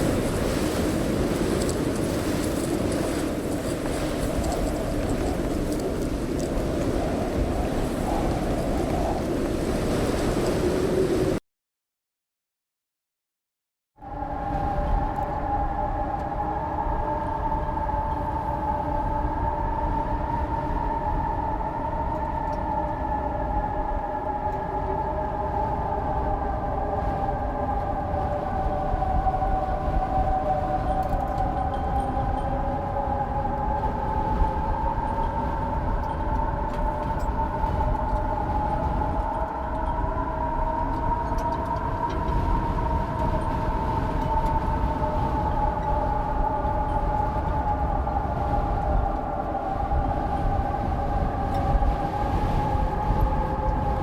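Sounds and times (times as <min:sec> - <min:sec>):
howling wind: 0:00.0 - 0:11.4, 0:14.0 - 0:54.0.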